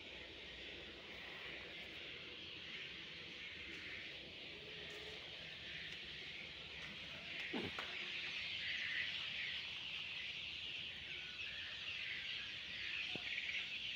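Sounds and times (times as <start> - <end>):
birds chirping in chorus: 0.0 - 13.9.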